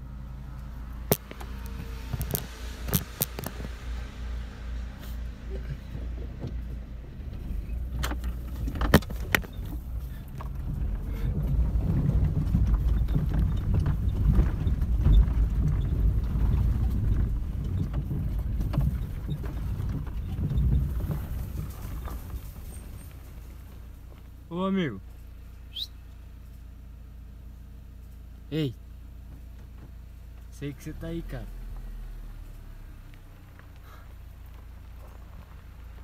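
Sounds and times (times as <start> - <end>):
vehicle rumble and rattling: 0.0 - 36.0.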